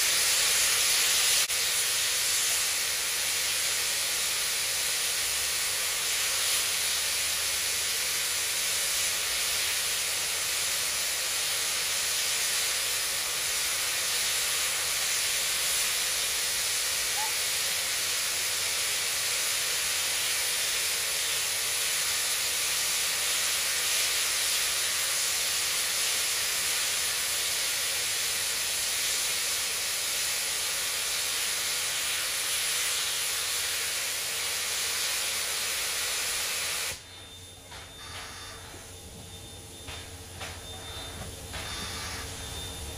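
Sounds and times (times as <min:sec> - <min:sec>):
steam locomotive venting steam: 0:00.0 - 0:42.9.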